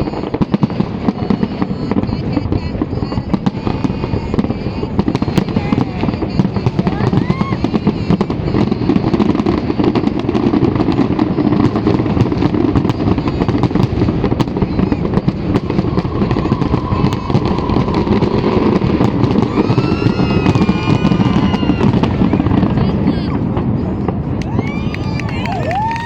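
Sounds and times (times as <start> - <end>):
fireworks booming: 0.0 - 26.0
fireworks crackling: 0.0 - 26.0.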